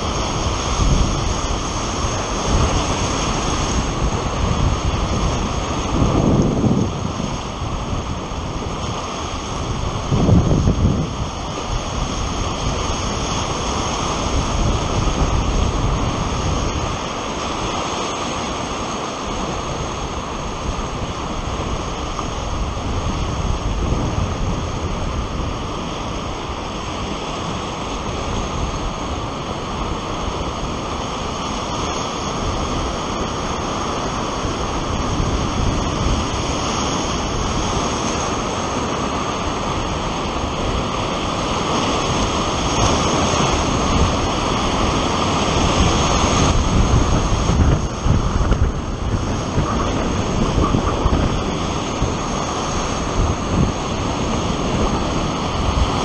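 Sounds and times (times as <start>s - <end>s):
whitewater rushing: 0.0s - 56.0s.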